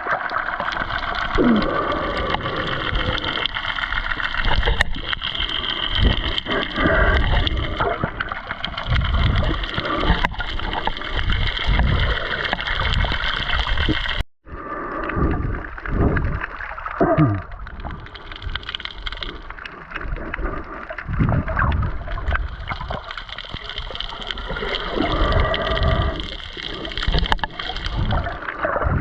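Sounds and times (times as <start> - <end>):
sharp clicks and crackles: 0.0 - 14.2, 15.0 - 29.0
muffled underwater gurgling: 0.0 - 29.0.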